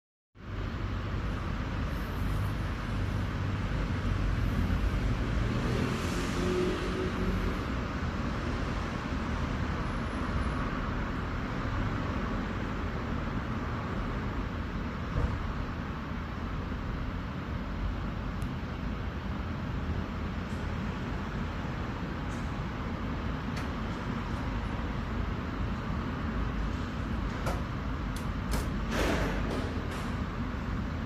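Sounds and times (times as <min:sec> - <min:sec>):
road vehicles rumbling: 0:00.4 - 0:31.0.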